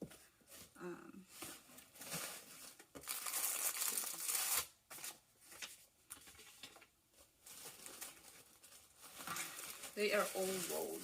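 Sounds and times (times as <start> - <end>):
packaging rustling and crinkling: 0.5 - 11.0.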